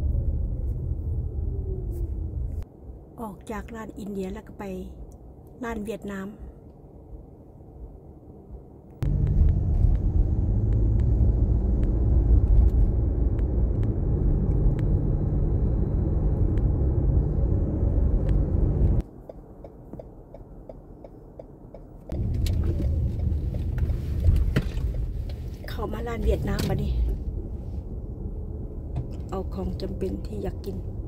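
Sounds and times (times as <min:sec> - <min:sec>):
car road and engine rumble: 0:00.0 - 0:03.2, 0:06.7 - 0:31.0.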